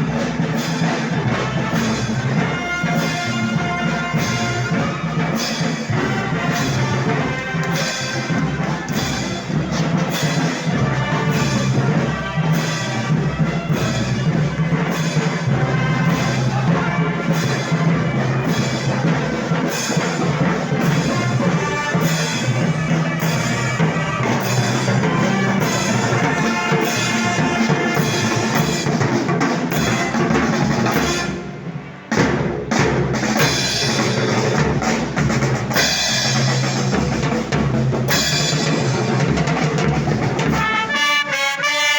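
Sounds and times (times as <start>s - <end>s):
drums keeping a steady beat: 0.0s - 41.9s
festival band music: 0.0s - 41.9s.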